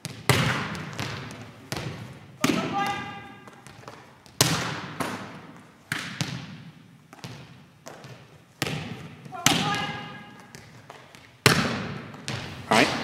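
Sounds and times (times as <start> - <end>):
ball bouncing on hard floor: 0.0 - 13.0
hand smacking volleyball: 0.0 - 13.0.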